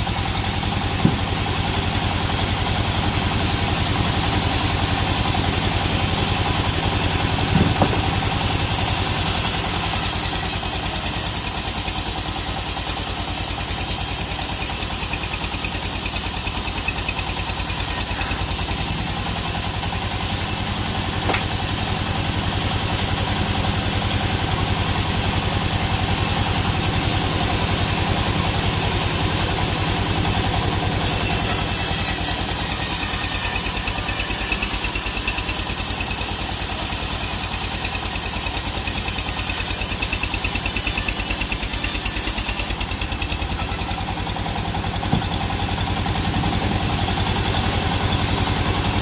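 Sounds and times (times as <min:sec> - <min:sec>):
sawmill engine running: 0:00.0 - 0:49.0.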